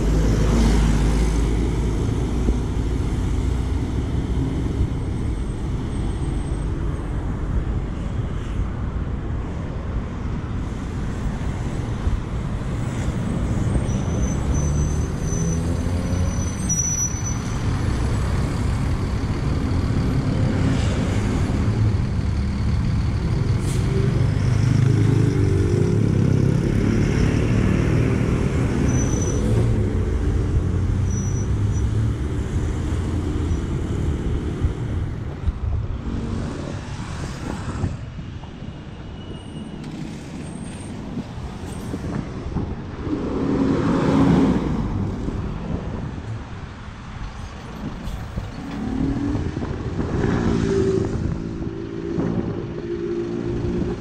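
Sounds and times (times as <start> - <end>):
passing traffic: 0.0 - 54.0.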